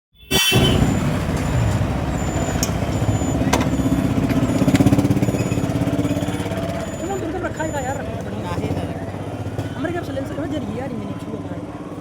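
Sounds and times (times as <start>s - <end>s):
motorcycle engine running: 0.6s - 12.0s.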